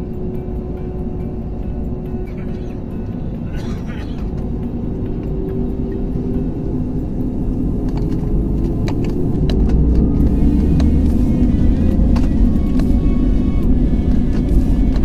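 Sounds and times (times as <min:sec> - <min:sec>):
jet engines and cabin rumble: 0:00.0 - 0:15.0.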